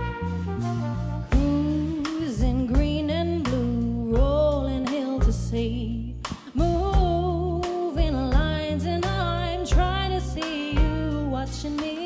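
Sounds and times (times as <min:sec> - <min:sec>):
soul band playing: 0:00.0 - 0:12.0.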